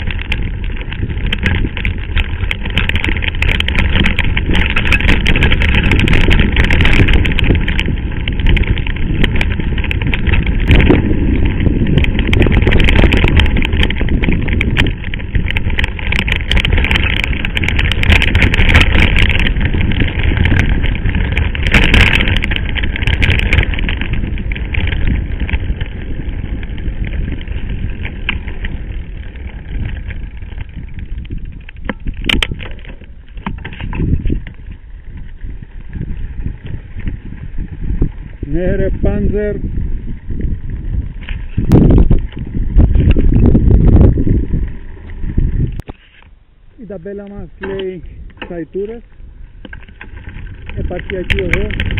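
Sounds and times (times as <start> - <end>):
bike rattling: 0.0 - 51.9
tyres crunching over stones: 0.0 - 51.9
wind rumble on microphone: 0.0 - 51.9.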